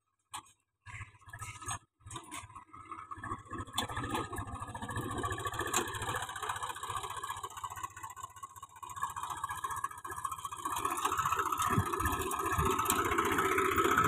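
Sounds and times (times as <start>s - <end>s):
tractor diesel engine running: 0.3s - 14.0s.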